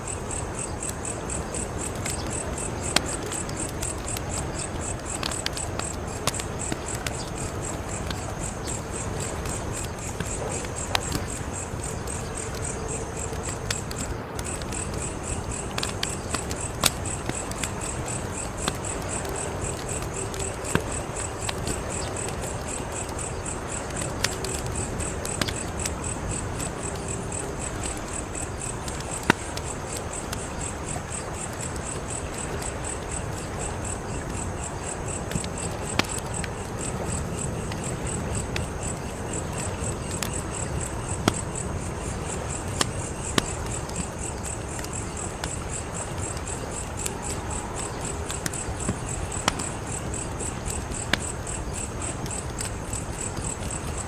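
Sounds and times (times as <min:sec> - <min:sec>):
crickets chirping: 0:00.0 - 0:54.0
wood fire crackling and popping: 0:00.0 - 0:54.0.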